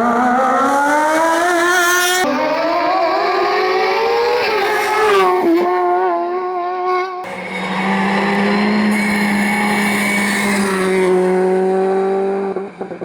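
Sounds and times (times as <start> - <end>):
race car engine at high revs: 0.0 - 6.3, 7.2 - 13.0.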